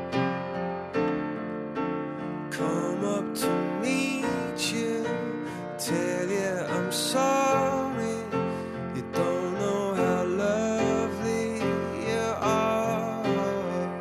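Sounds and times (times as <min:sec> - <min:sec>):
person singing gliding melody: 0:02.6 - 0:14.0.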